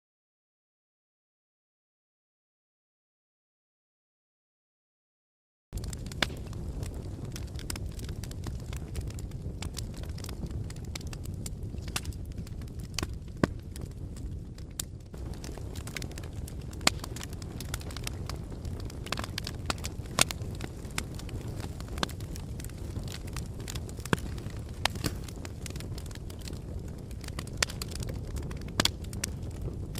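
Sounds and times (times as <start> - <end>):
fire rumbling: 5.8 - 29.9
wood fire popping and crackling: 5.8 - 29.9.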